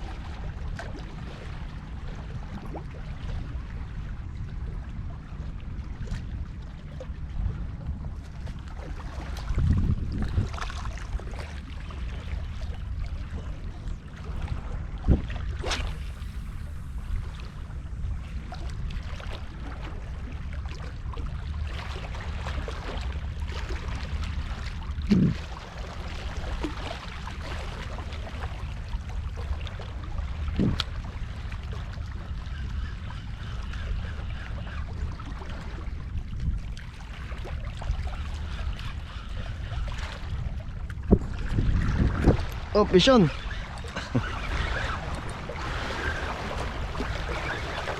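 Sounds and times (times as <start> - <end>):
wind rumbling on microphone: 0.0 - 47.9.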